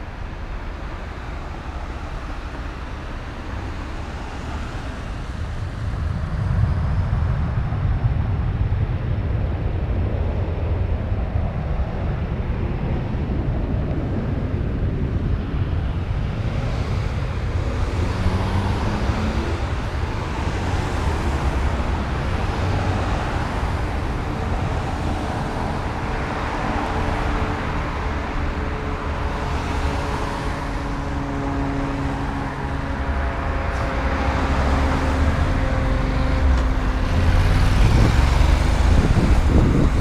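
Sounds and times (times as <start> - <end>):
cars passing: 0.0 - 40.0
wind rumble on microphone: 0.0 - 40.0.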